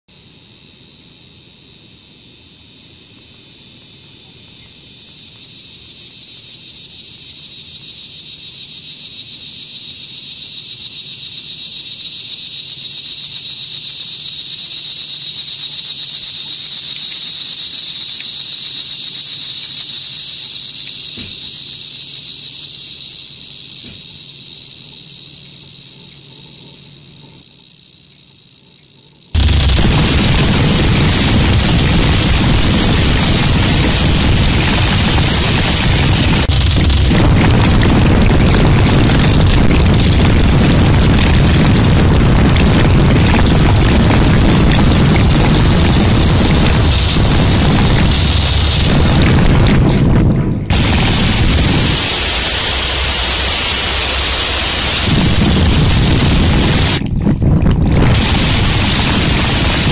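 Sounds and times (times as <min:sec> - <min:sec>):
cicada buzzing: 0:00.2 - 0:49.9, 0:50.7 - 0:57.0, 0:58.1 - 0:59.9.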